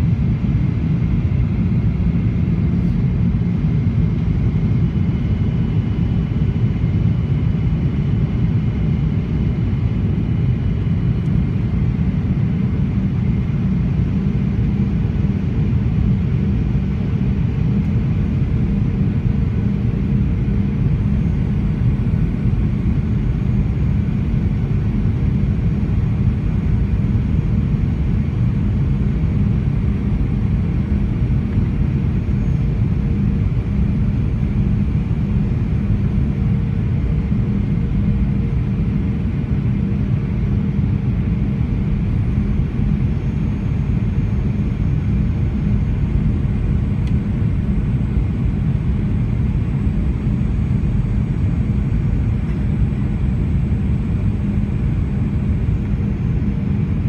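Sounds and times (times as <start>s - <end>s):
faint steady hum: 0.0s - 57.0s
jet engine and airflow rumble: 0.0s - 57.0s.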